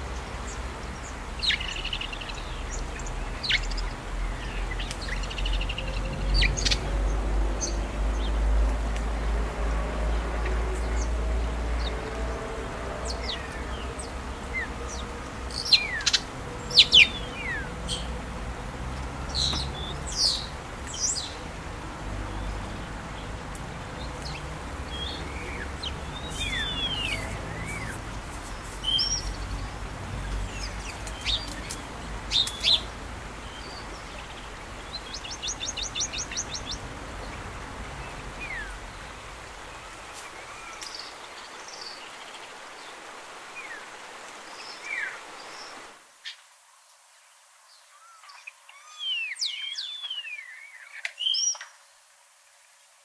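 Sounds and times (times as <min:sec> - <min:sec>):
songbirds chirping and calling: 0:00.0 - 0:46.5, 0:47.7 - 0:51.8.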